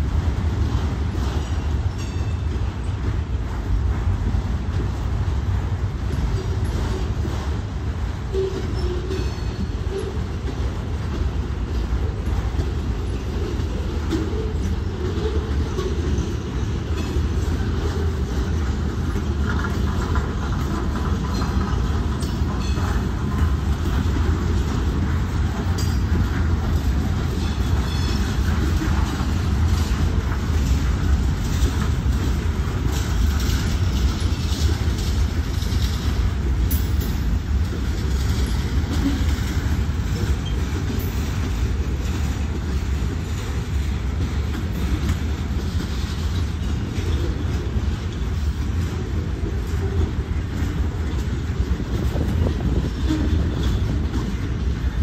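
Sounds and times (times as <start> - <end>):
freight train rumbling: 0.0 - 55.0
wheels clicking over rail joints: 0.0 - 55.0.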